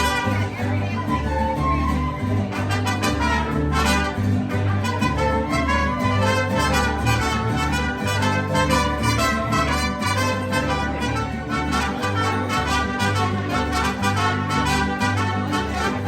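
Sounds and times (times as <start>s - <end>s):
trumpets: 0.0s - 0.8s, 2.5s - 16.0s
bass line: 0.0s - 16.0s
mariachi ensemble playing: 0.0s - 16.0s.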